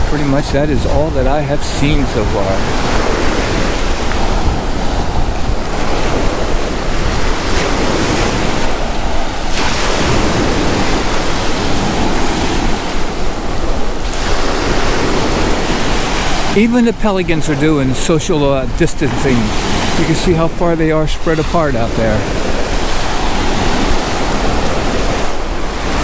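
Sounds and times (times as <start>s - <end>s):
surf breaking on a beach: 0.0s - 26.0s
wind rumbling on microphone: 0.0s - 26.0s.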